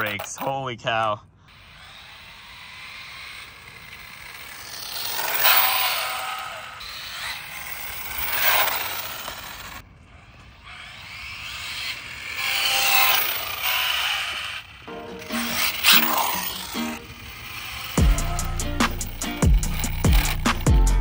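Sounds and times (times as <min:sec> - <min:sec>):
thin motor whine: 0:01.5 - 0:20.9
rc car driving past: 0:01.5 - 0:21.0.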